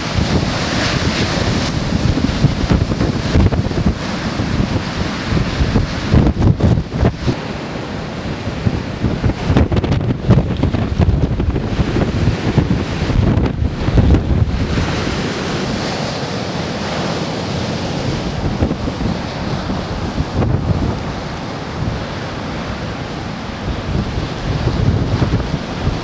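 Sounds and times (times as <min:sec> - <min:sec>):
breaking waves: 0:00.0 - 0:26.0
wind buffeting microphone: 0:00.0 - 0:26.0.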